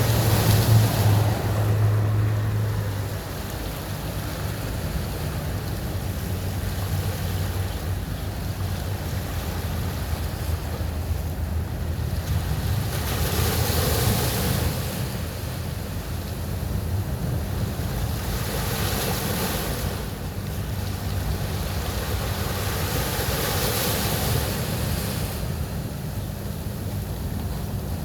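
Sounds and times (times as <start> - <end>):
ocean surf breaking: 0.0 - 8.2, 9.0 - 28.0.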